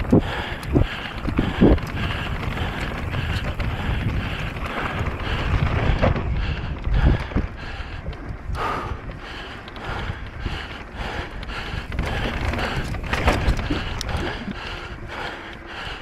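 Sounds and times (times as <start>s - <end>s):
bike rumbling and rattling: 0.0s - 16.0s
wind rushing over microphone: 0.0s - 16.0s.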